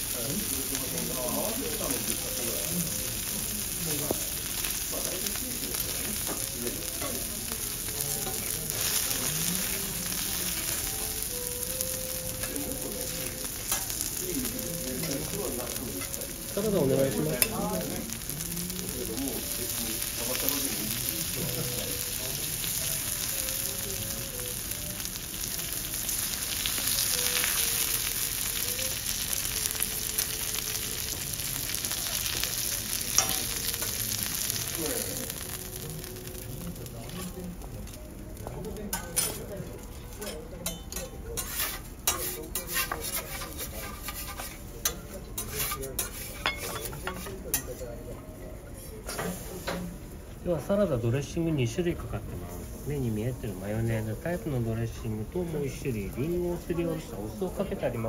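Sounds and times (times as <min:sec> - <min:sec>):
beef sizzling on griddle: 0:00.0 - 0:47.7, 0:52.3 - 0:58.0.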